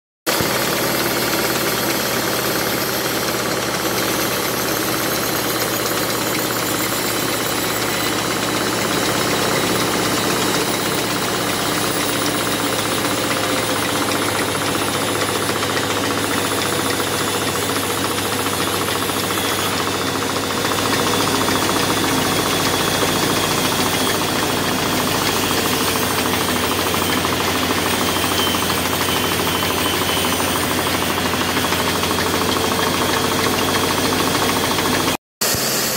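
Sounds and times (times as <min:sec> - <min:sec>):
band saw cutting wood: 0:00.3 - 0:35.9.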